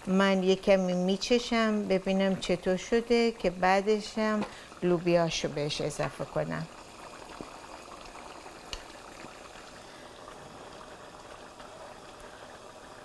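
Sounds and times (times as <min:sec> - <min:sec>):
stew bubbling in a pot: 0:00.0 - 0:13.0.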